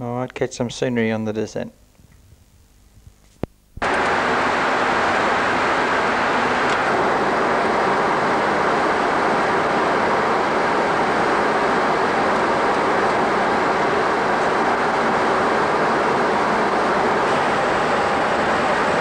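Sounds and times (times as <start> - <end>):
steady rushing noise in cockpit: 3.8 - 19.0.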